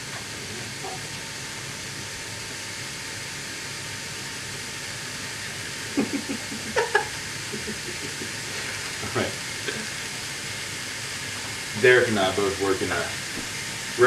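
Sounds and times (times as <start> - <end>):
burger patties sizzling on a grill: 0.0 - 14.0.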